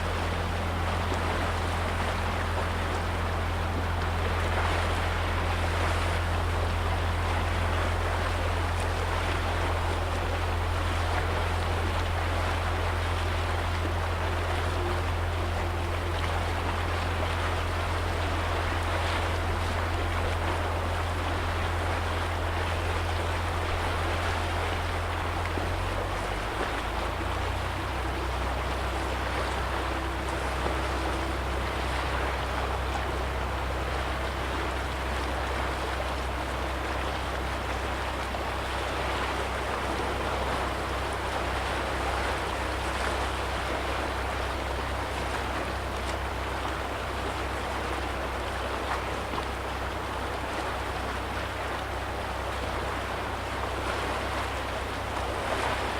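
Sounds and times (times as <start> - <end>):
low steady rumble: 0.0 - 55.9
waves lapping against shore: 0.0 - 55.9.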